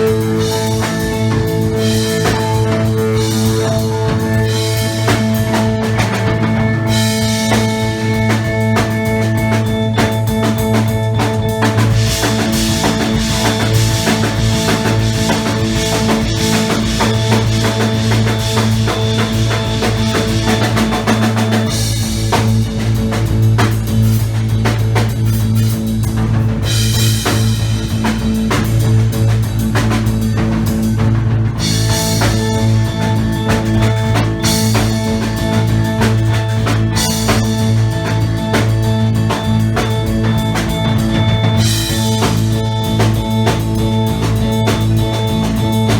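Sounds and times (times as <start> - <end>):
drum kit played heavily: 0.0 - 45.9
low droning tone: 0.0 - 45.9.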